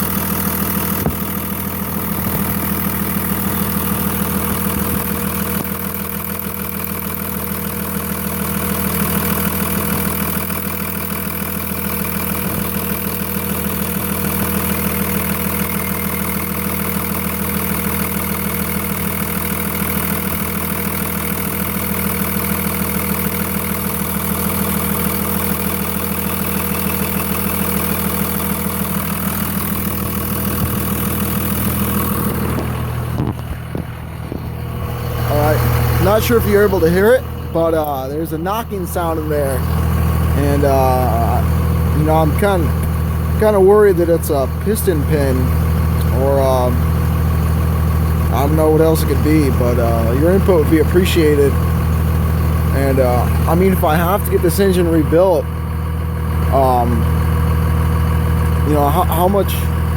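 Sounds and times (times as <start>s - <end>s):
diesel engine idling: 0.0s - 59.9s
rapid engine knocking: 0.0s - 59.9s.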